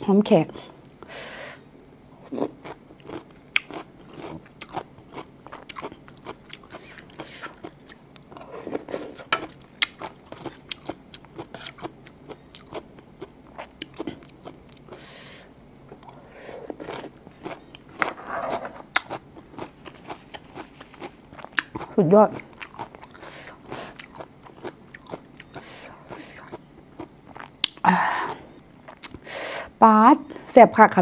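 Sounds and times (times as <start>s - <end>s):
crunching and chewing food: 1.9s - 29.2s.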